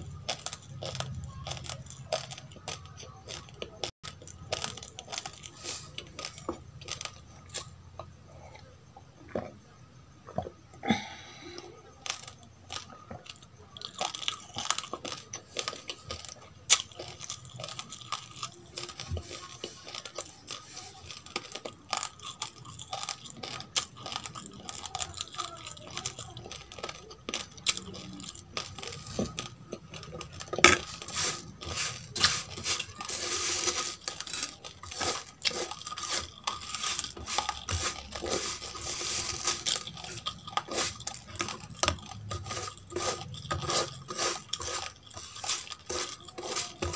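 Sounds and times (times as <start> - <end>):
chewing crunchy rice: 0.0 - 46.9.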